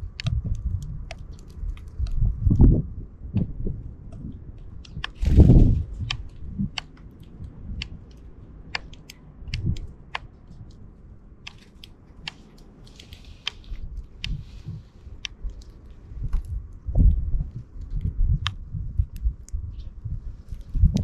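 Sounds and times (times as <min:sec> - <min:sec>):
sparrows pecking and ticking: 0:00.0 - 0:21.0.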